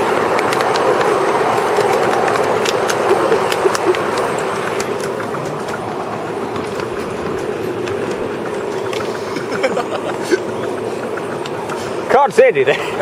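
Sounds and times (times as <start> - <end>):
rail joint clicks: 0.0 - 13.0
train wheels rumbling on rails: 0.0 - 13.0.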